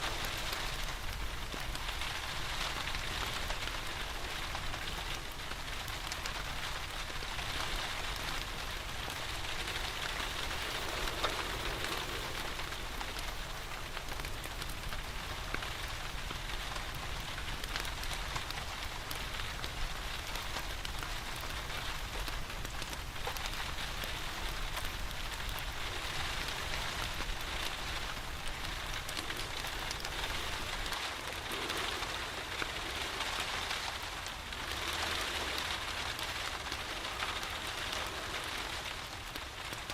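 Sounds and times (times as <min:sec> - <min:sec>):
steady rain falling: 0:00.0 - 0:39.9
wood fire crackling: 0:00.0 - 0:39.9.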